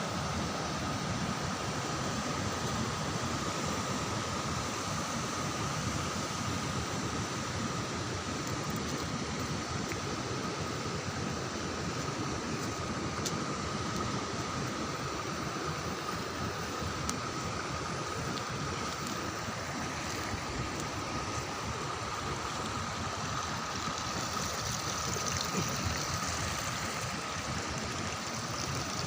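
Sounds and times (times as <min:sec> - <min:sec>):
flowing water: 0:00.0 - 0:29.0.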